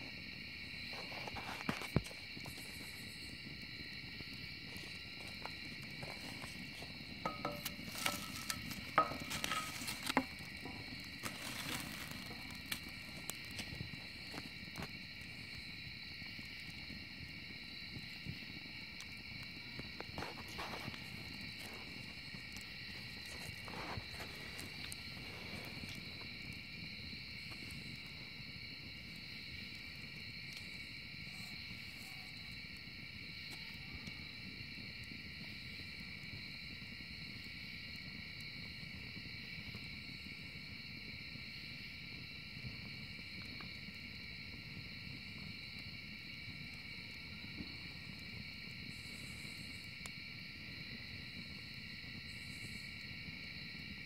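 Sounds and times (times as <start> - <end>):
insects chirping: 0.0 - 54.0
fire popping and snapping: 0.1 - 54.0
wood fire crackling: 0.1 - 54.0.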